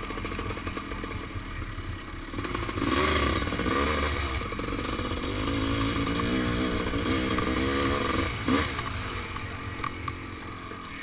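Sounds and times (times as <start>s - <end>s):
two-stroke engine revving: 0.0s - 1.5s, 2.2s - 10.8s.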